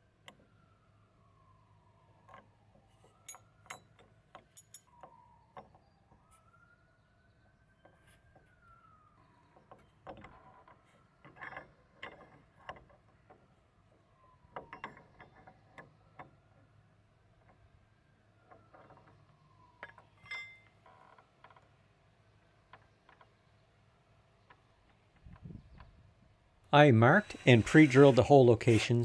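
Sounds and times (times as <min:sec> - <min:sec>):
distant siren: 0:00.0 - 0:24.2.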